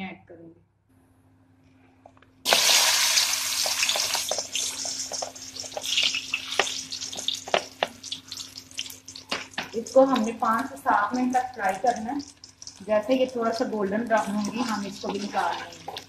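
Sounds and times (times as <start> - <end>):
food sizzling in hot oil: 2.5 - 16.0
oil popping and crackling: 2.5 - 16.0.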